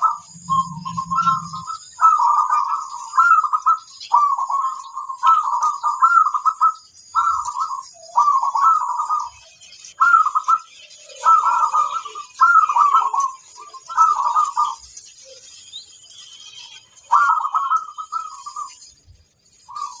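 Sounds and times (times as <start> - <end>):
dove cooing: 0.0 - 15.6, 16.5 - 18.9, 19.6 - 20.0.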